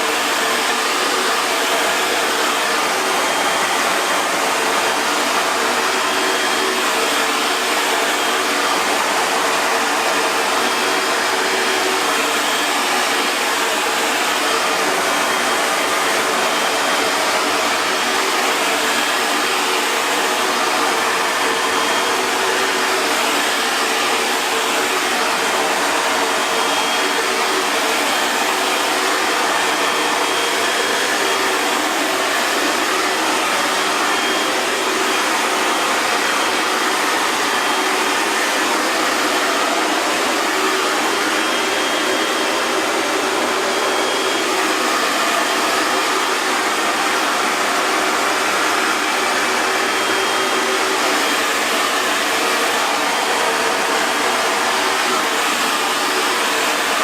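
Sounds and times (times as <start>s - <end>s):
hair dryer blowing air: 0.0s - 57.0s.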